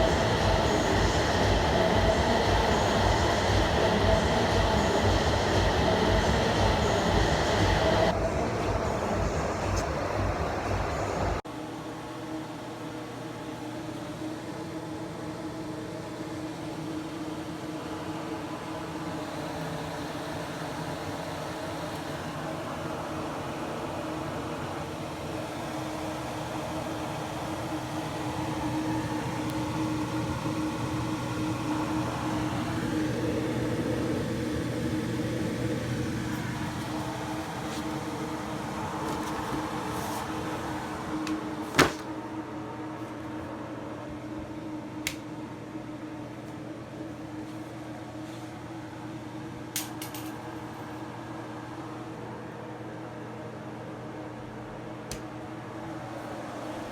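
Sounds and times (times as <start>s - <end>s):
steady mechanical hum: 0.0s - 56.9s.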